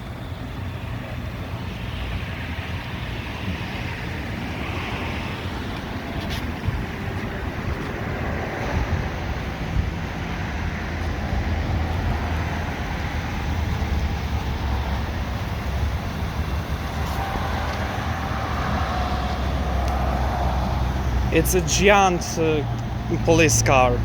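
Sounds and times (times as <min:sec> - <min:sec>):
car engine idling: 0:00.0 - 0:24.0
traffic noise: 0:00.0 - 0:24.0.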